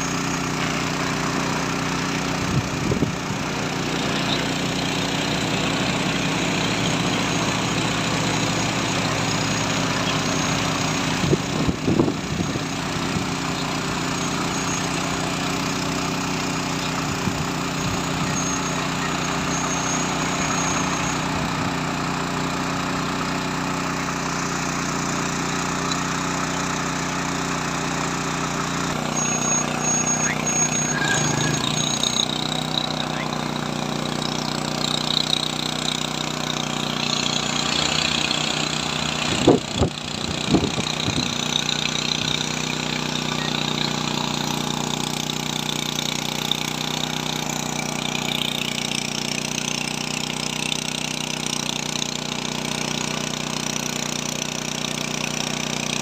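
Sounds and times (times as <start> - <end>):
small petrol engine running: 0.0 - 56.0.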